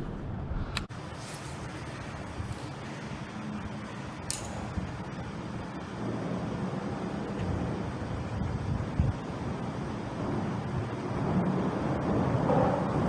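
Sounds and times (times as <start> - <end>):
road traffic rumble: 0.8 - 13.0.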